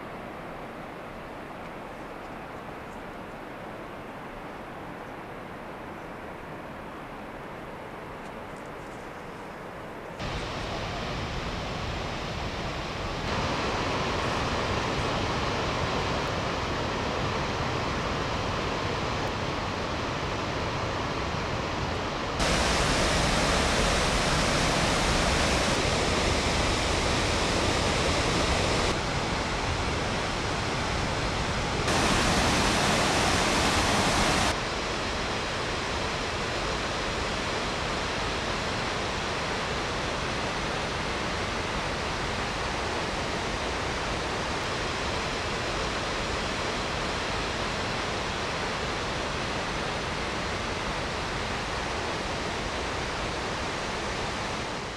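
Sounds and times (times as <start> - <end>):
waterfall rushing: 10.2 - 54.9.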